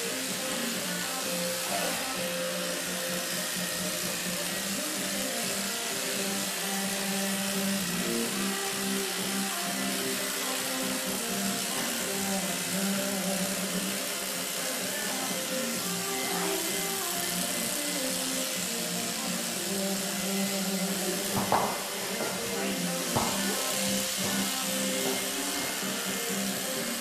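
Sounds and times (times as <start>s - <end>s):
music from a radio: 0.0s - 27.0s.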